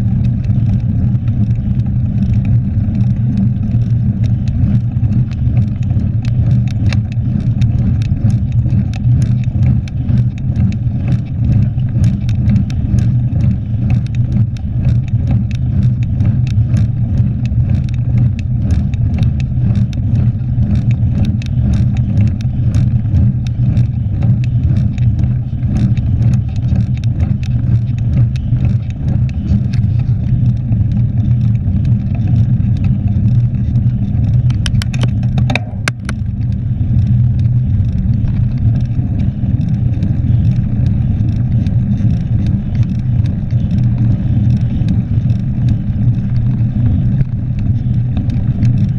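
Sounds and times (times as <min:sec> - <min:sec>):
bike clicking and rattling: 0:00.0 - 0:48.9
wind and tyre rumble: 0:00.0 - 0:48.9.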